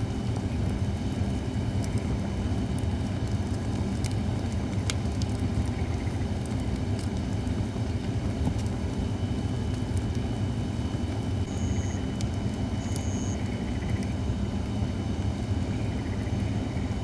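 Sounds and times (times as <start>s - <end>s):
campfire burning: 0.0s - 17.0s.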